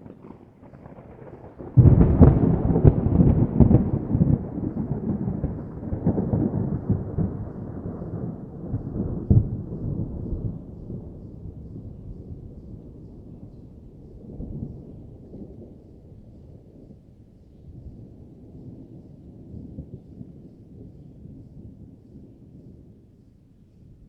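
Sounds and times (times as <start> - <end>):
distant thunder rumbling: 0.0 - 23.2.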